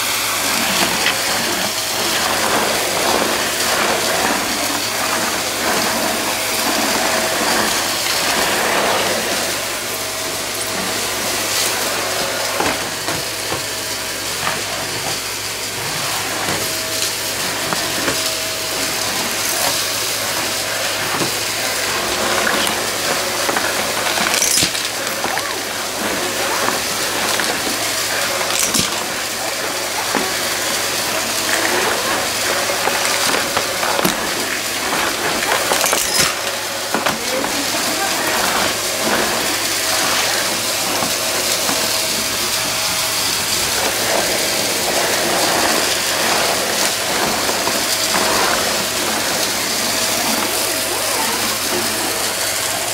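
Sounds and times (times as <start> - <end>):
debris crackling up vacuum wand: 0.0 - 52.9
stick vacuum running: 0.0 - 52.9.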